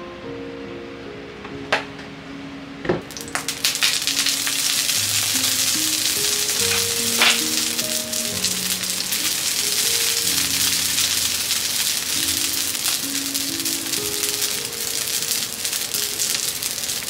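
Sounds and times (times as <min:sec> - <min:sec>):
background music: 0:00.0 - 0:17.0
fish sizzling in hot oil: 0:03.1 - 0:17.0.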